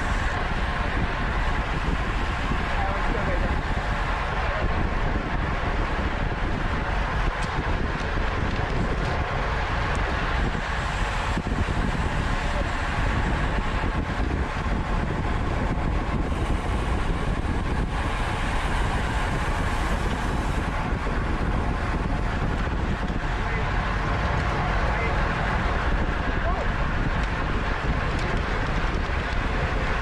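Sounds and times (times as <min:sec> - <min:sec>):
wind rushing on microphone: 0:00.0 - 0:30.0.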